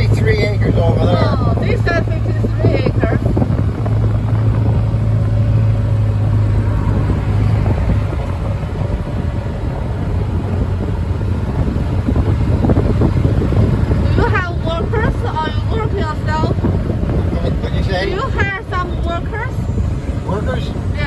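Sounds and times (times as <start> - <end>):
road and rattle noise: 0.0 - 21.0
vehicle engine droning: 0.0 - 21.0.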